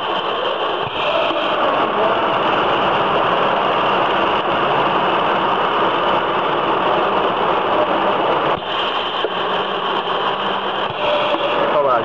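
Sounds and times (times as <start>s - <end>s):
riveting machine hum and hiss: 0.0s - 12.0s.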